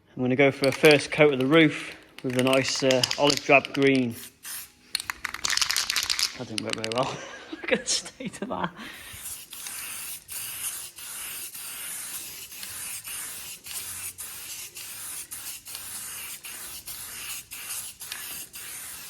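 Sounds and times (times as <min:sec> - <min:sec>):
spray paint can hissing: 0:00.6 - 0:07.0, 0:09.0 - 0:19.0.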